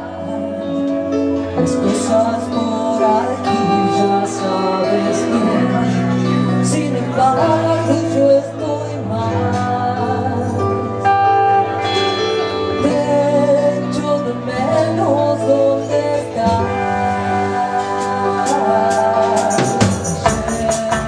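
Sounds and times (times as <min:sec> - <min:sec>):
drums: 0:00.0 - 0:21.0
electric bass guitar: 0:00.0 - 0:21.0
woman singing: 0:00.0 - 0:21.0.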